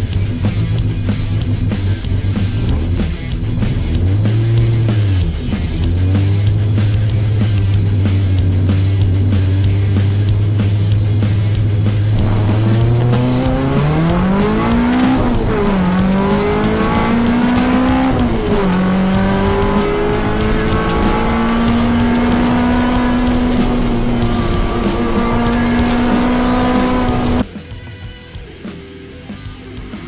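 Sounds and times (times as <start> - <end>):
rally car engine revving: 0.0 - 27.4.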